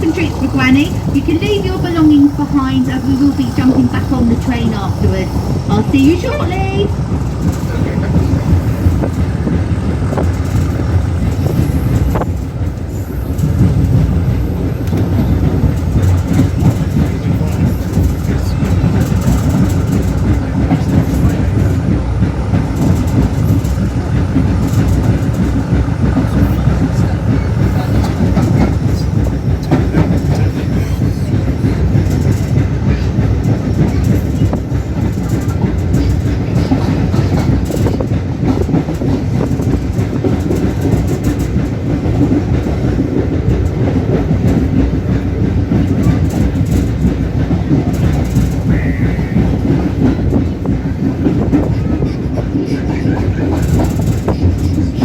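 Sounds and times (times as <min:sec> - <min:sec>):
clickety-clack of rail joints: 0:00.0 - 0:55.0
train wheels rumbling on rails: 0:00.0 - 0:55.0.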